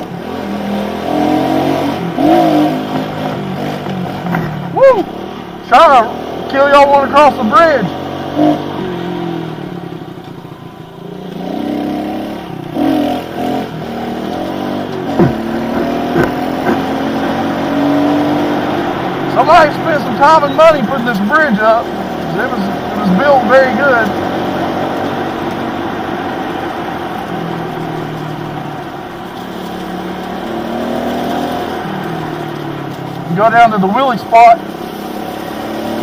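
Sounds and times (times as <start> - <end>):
muffled motorbike engine revving: 0.0 - 36.0.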